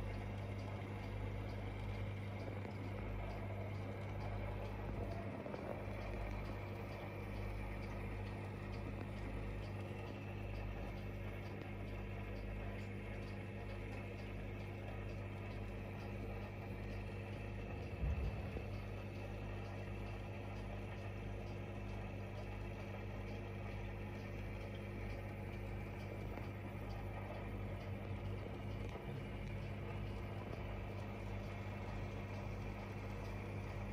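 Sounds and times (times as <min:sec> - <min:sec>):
aquarium equipment humming: 0:00.0 - 0:33.9.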